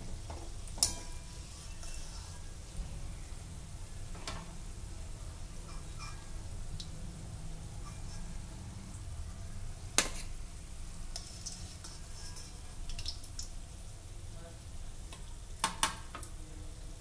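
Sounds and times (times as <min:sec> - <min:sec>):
donuts sizzling in hot oil: 0:00.0 - 0:17.0.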